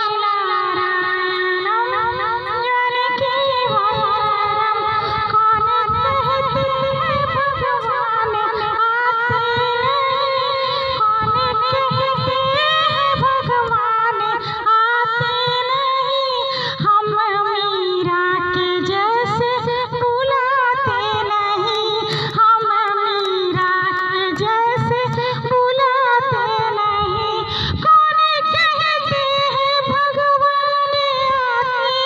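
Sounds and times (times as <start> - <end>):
woman singing unaccompanied: 0.0 - 32.0.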